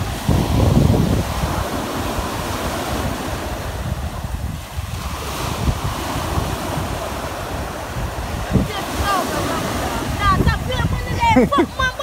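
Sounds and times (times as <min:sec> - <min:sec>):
surf breaking on sandy beach: 0:00.0 - 0:12.0
wind buffeting microphone: 0:00.0 - 0:12.0.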